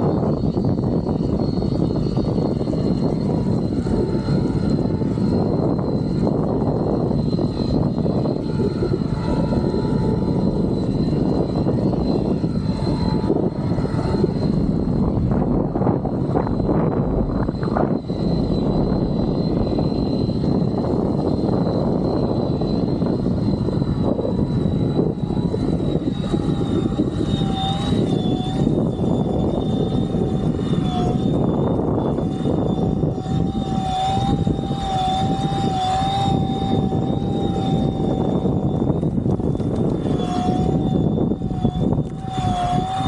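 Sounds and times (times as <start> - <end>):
electric motor whining: 0.0 - 43.0
rush of wind and water: 0.0 - 43.0.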